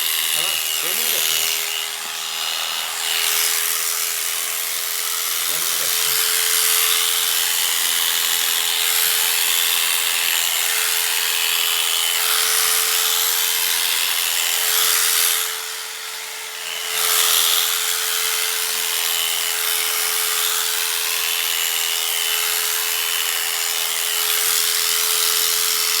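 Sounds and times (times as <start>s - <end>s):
electric clippers whining: 0.0s - 26.0s.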